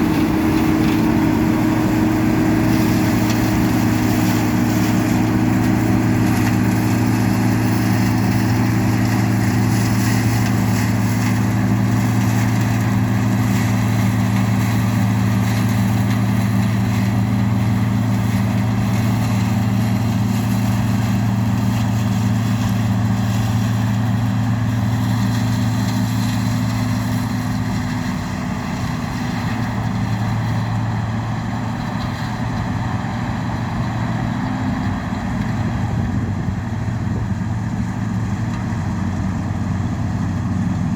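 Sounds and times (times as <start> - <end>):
machinery engine droning: 0.0 - 40.9.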